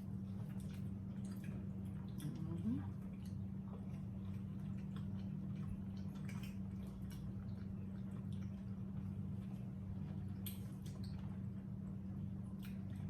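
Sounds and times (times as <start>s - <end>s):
low electrical hum: 0.0s - 13.0s
wet mouth and food sounds: 0.3s - 11.5s, 12.4s - 13.0s.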